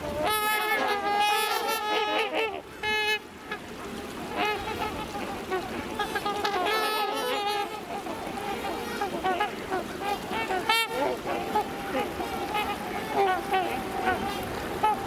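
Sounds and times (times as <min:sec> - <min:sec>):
mallards quacking: 0:00.0 - 0:15.0
swans honking: 0:00.0 - 0:15.0.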